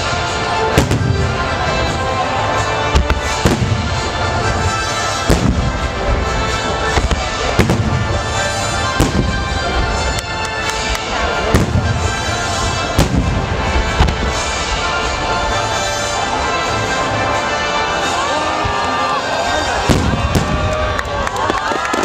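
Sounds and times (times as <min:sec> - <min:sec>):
fireworks bursting: 0:00.0 - 0:18.9, 0:19.6 - 0:22.0
music playing: 0:00.0 - 0:22.0.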